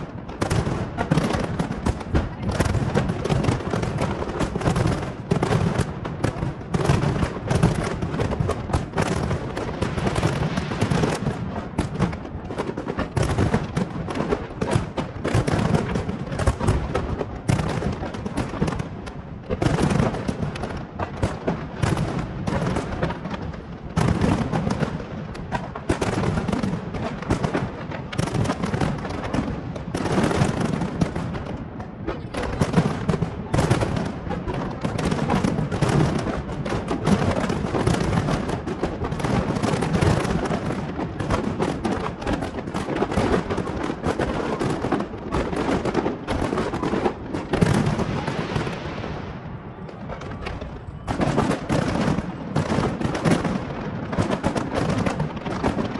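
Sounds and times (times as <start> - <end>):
deep fireworks booms: 0.0 - 55.9
fireworks bangs and crackles: 0.0 - 55.9.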